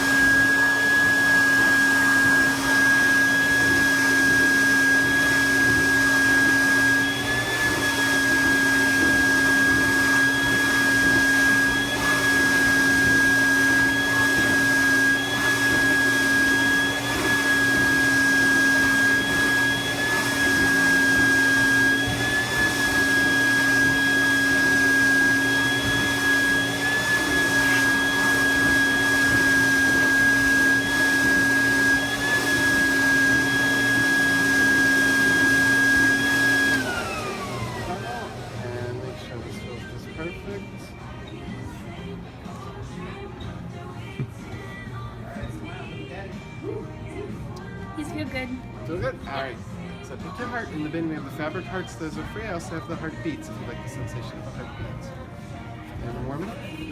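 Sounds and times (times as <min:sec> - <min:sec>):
stuffing machine blower whine: 0:00.0 - 0:56.9.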